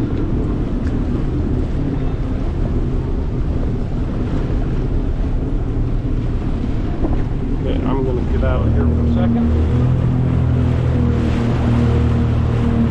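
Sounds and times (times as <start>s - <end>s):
boat motor running: 0.0s - 12.9s
wind buffeting microphone: 0.0s - 12.9s.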